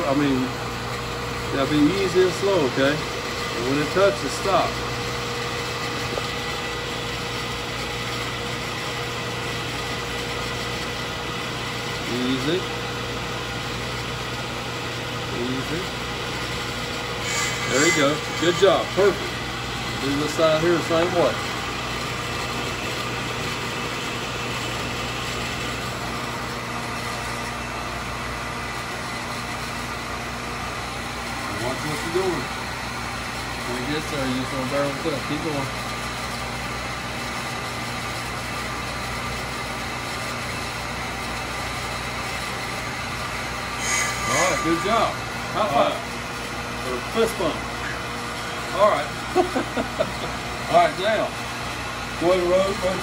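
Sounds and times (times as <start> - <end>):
brake lathe motor hum: 0.0 - 53.0.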